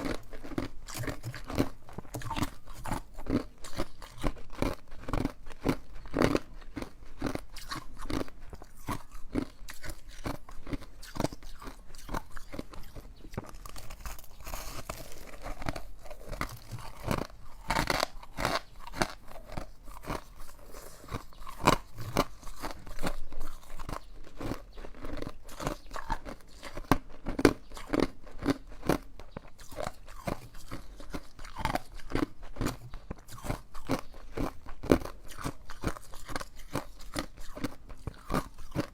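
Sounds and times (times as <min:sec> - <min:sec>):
ice chewing crunches: 0:00.0 - 0:38.9.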